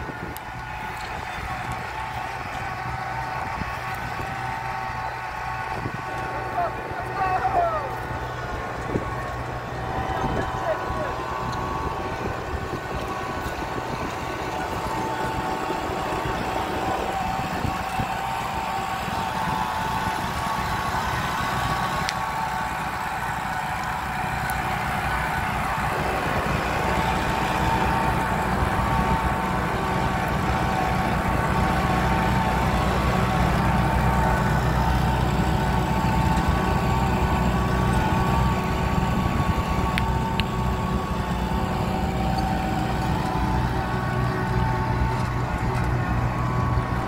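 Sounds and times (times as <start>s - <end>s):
steady whine: 0.0s - 47.0s
tractor diesel engine under load: 0.0s - 47.0s.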